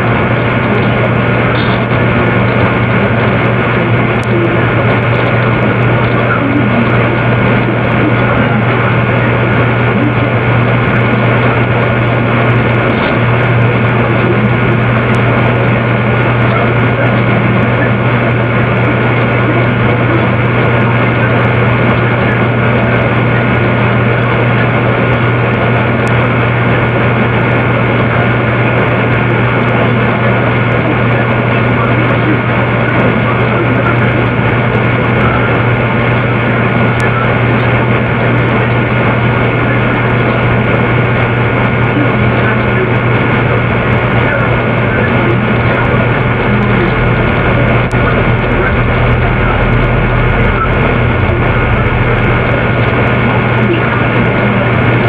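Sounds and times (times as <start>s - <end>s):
loud droning hum: 0.0s - 55.0s.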